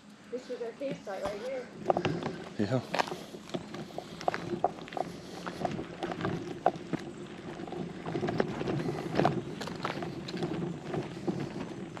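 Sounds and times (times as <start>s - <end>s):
footsteps crunching on gravel: 0.4s - 12.0s.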